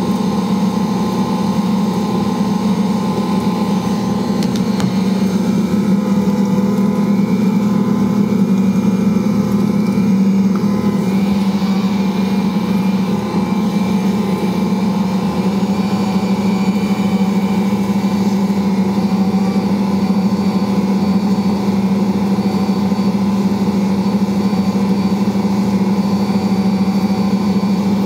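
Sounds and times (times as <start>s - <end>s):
stand mixer kneading dough: 0.0s - 28.0s.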